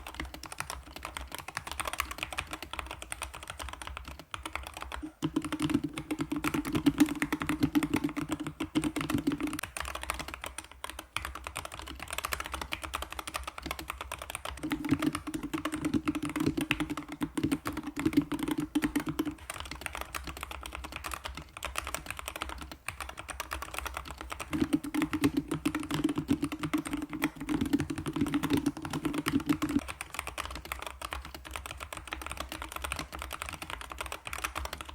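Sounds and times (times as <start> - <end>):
rapid typing on mechanical keyboard: 0.0 - 34.9.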